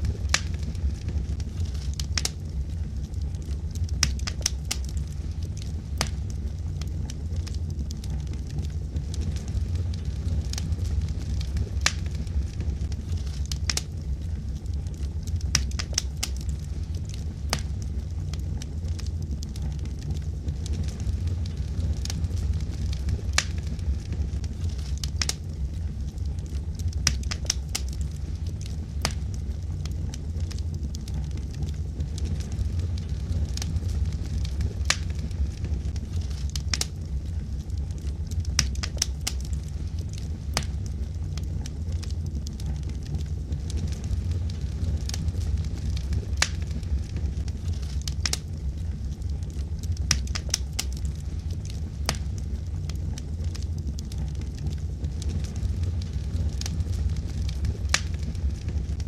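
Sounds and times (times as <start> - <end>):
logs popping and crackling: 0.0 - 59.0
low rumble of flame: 0.0 - 59.0.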